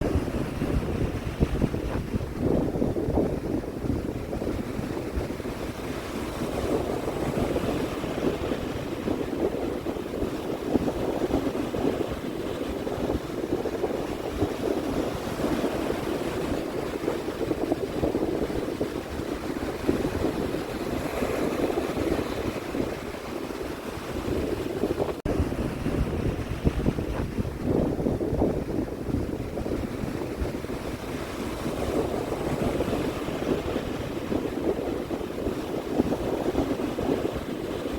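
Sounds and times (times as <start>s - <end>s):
sea waves washing in: 0.0s - 37.9s
wind buffeting microphone: 0.0s - 37.9s.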